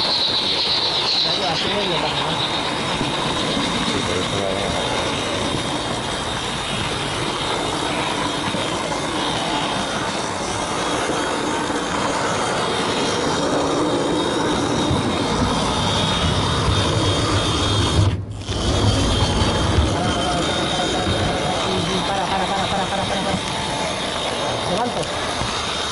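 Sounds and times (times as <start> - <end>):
model train rolling rattle: 0.0 - 25.9
deeper rumble: 0.4 - 25.9.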